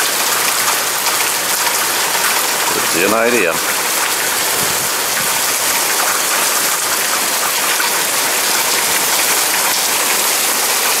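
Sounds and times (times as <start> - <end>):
heavy rain on pavement and cars: 0.0 - 11.0.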